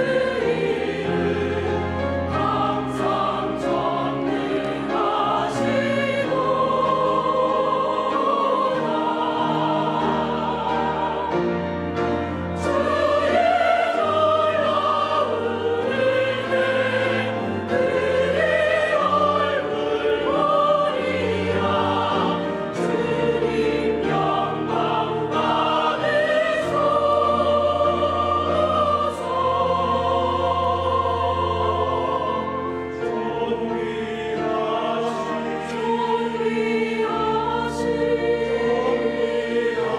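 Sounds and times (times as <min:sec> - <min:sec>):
church choir singing a hymn: 0:00.0 - 0:39.9
instrumental accompaniment: 0:00.0 - 0:39.9.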